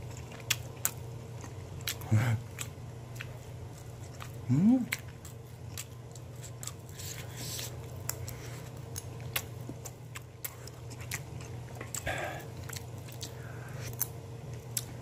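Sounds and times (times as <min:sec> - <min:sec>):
chewing clicks and smacks: 0:00.0 - 0:15.0
low steady hum: 0:00.0 - 0:15.0.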